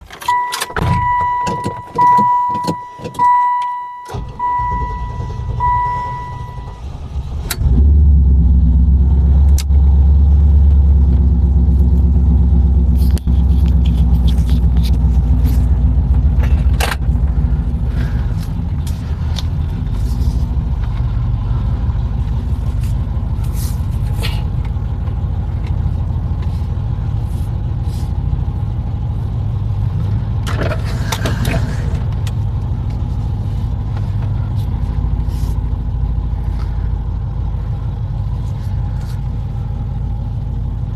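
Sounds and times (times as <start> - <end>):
car engine starting and idling: 0.0 - 40.9.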